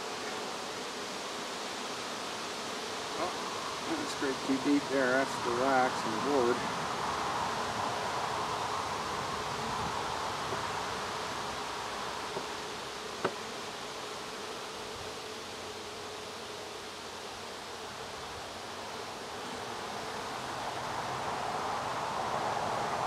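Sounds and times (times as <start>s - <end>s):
bees buzzing around hive: 0.0s - 23.0s.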